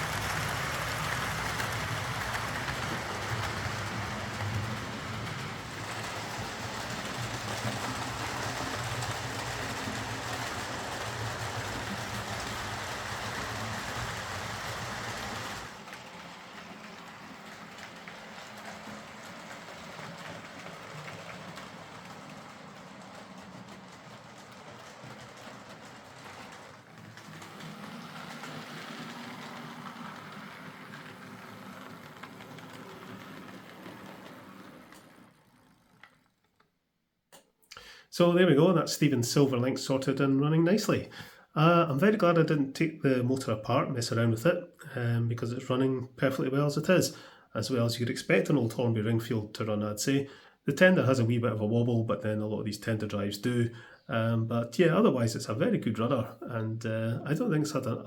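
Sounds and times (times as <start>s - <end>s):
model locomotive running on track: 0.0s - 36.6s, 38.2s - 58.0s.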